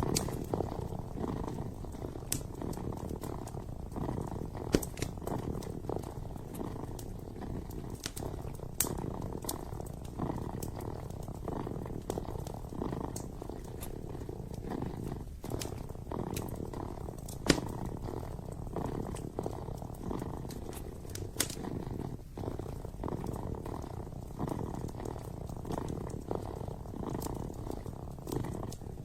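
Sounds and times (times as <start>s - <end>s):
kitten purring: 0.0s - 29.0s
wood fire crackling and popping: 0.0s - 29.0s.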